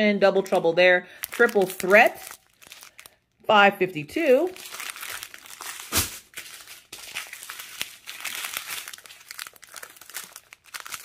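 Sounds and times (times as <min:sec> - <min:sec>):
plastic bags crinkling: 0:01.1 - 0:03.4, 0:04.3 - 0:11.0.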